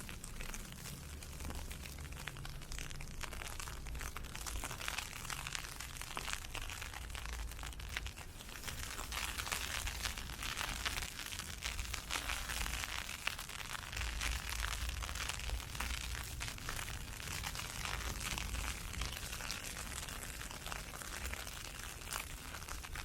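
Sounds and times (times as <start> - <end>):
ice pellets ticking: 0.0 - 23.0.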